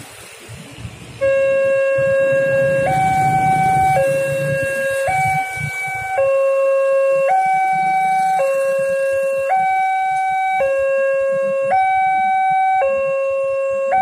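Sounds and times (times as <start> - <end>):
level crossing two-tone alarm: 1.2 - 14.0.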